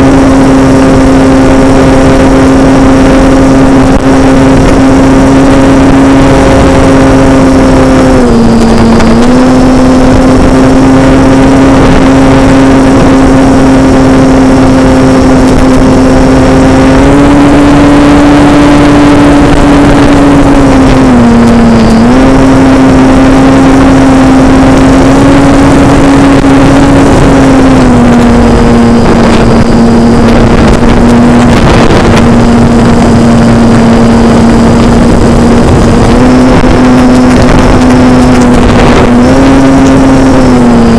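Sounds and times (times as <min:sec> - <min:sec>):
model airplane motor droning: 0:00.0 - 0:40.9
rushing airflow on microphone: 0:00.0 - 0:40.9.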